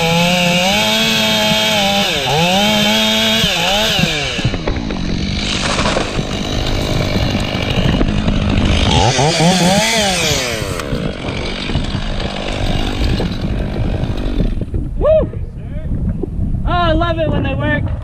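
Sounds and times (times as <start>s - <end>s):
chainsaw cutting wood: 0.0s - 14.9s.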